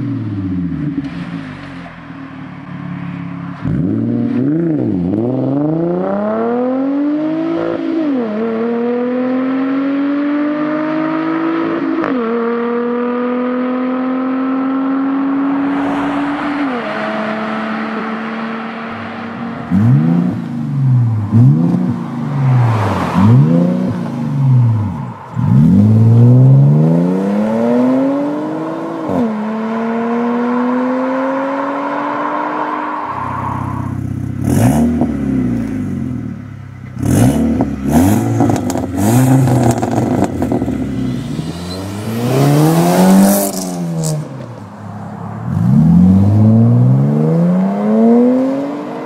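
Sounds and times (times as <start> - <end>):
car engine revving: 2.3 - 49.0.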